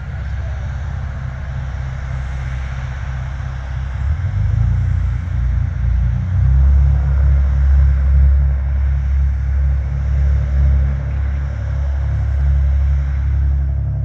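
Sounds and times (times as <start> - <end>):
boat engines rumbling: 0.0 - 14.0.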